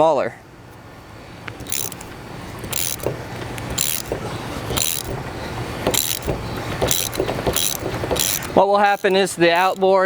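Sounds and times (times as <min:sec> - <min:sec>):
wrench metallic rasp: 0:01.6 - 0:10.0.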